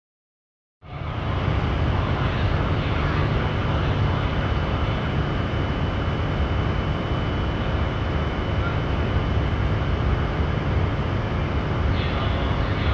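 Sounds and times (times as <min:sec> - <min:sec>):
rumble and hiss of train line: 0:00.8 - 0:12.9.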